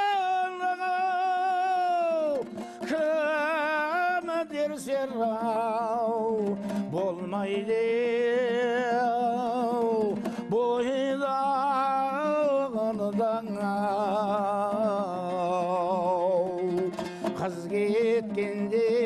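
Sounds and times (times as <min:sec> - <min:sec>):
lute strummed: 0:00.0 - 0:19.0
man singing with vibrato: 0:00.0 - 0:19.0.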